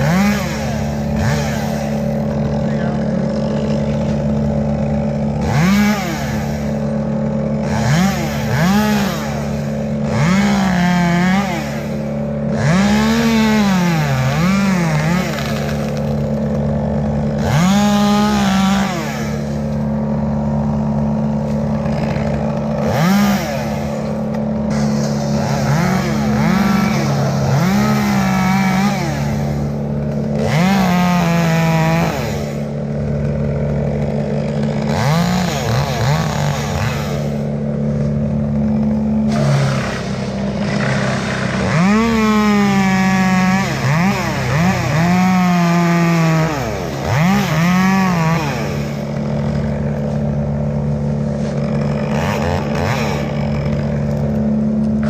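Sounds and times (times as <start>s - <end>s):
chainsaw revving: 0.0s - 55.0s
steady engine drone: 0.0s - 55.0s.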